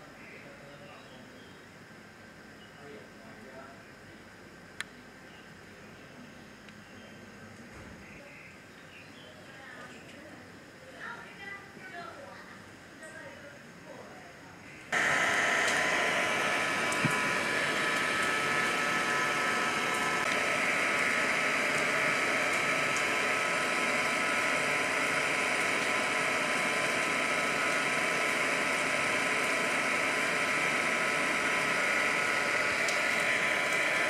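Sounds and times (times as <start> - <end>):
steady drone and hiss: 0.0 - 8.8, 9.5 - 34.0.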